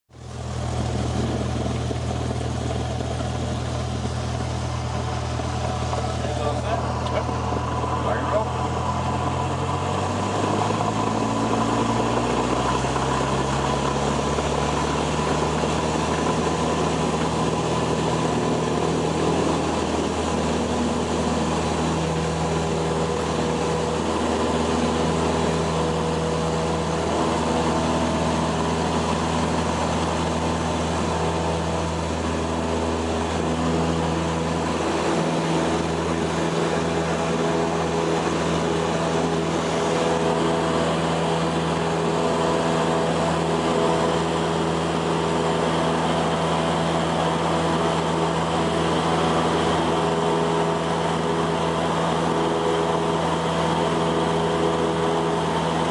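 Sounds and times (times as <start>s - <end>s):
light aircraft engine and propeller: 0.1s - 55.9s.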